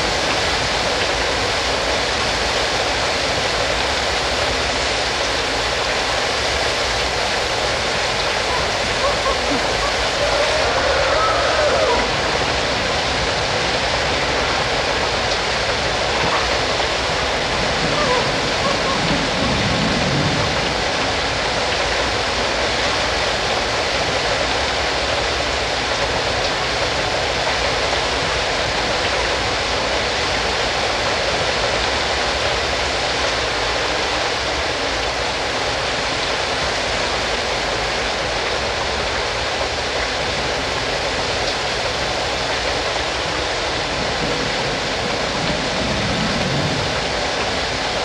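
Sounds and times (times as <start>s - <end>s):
rushing water: 0.0s - 48.0s.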